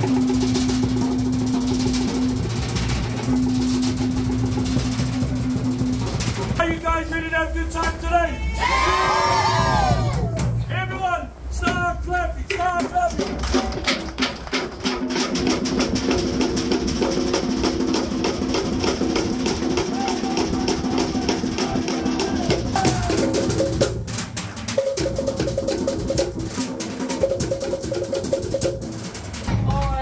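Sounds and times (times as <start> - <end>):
drums struck with sticks: 0.0 - 8.8, 9.4 - 10.8, 11.6 - 30.0.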